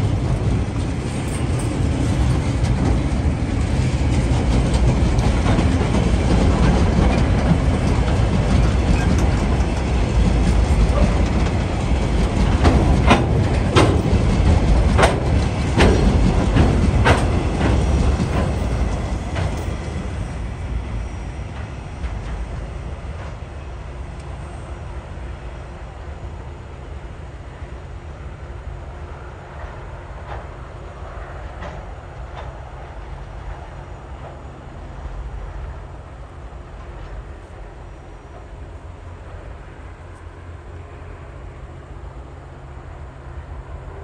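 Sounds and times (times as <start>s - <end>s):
rumble of wheels on rail: 0.0s - 44.0s.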